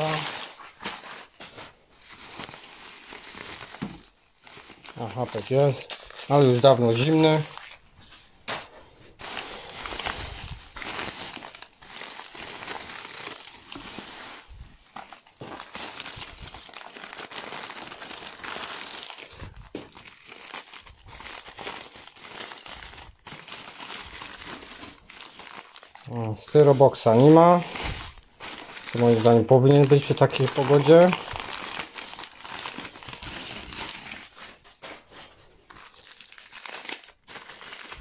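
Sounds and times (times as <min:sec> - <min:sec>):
bubble wrap and foil crinkling: 0:00.0 - 0:38.0.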